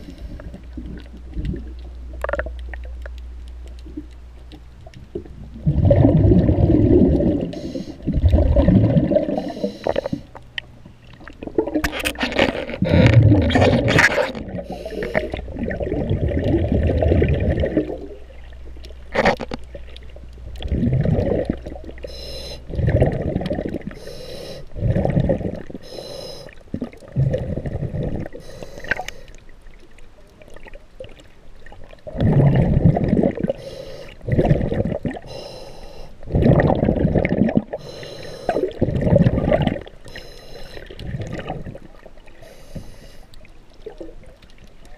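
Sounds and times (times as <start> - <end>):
muffled underwater water sloshing: 0.0 - 44.9.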